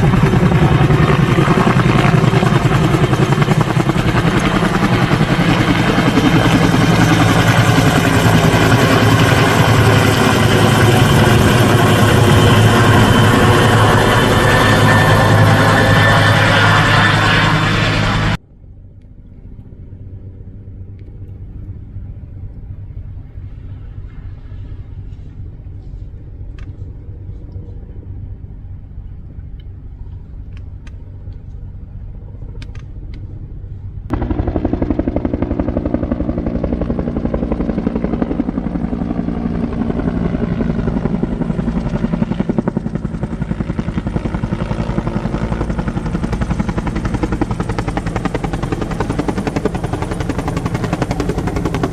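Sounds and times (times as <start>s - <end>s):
helicopter rotor and engine: 0.0s - 18.4s, 19.4s - 51.9s.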